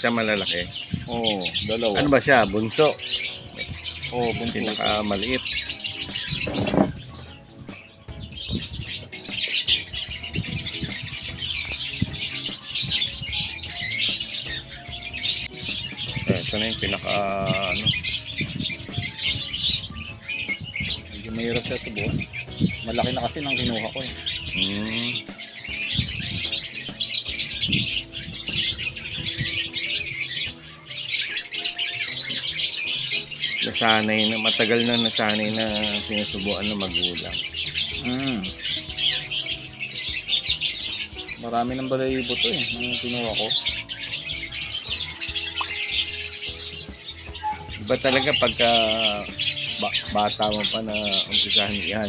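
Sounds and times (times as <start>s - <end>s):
parrots chirping and chattering: 0.0s - 52.0s.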